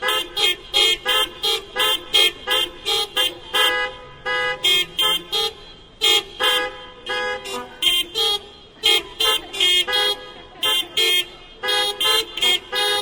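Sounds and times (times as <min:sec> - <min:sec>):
car horns honking: 0:00.0 - 0:13.0.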